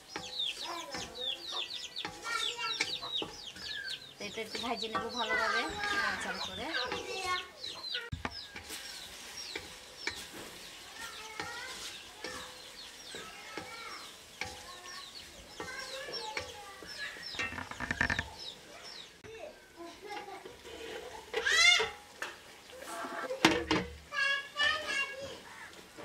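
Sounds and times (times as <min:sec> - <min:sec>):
spatula scraping metal wok: 0:00.0 - 0:18.7, 0:20.0 - 0:23.9
chickens clucking: 0:00.0 - 0:26.0.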